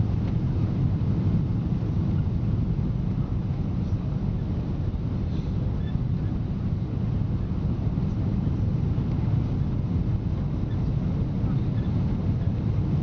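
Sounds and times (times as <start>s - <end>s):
airflow over fuselage: 0.0s - 13.0s
airplane cabin engine drone: 0.0s - 13.0s.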